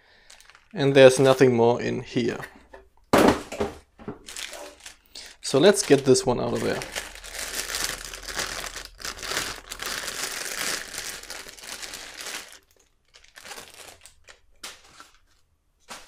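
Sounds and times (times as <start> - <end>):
soft plastic rustles: 0.0 - 2.9, 4.0 - 16.0
plastic wrapping crinkling: 0.1 - 1.6, 4.1 - 16.0.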